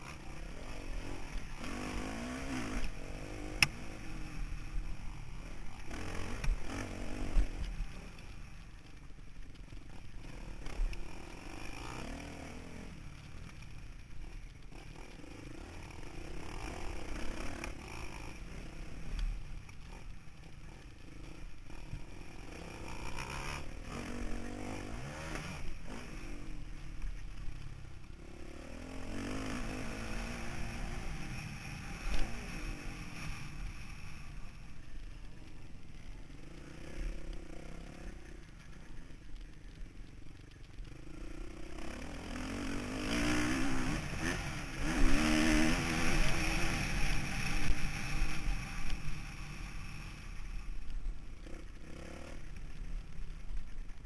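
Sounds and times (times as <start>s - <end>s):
dirt bike engine revving: 0.0s - 8.3s, 9.8s - 13.0s, 13.6s - 19.2s, 19.8s - 26.9s, 28.2s - 40.2s, 40.8s - 50.8s.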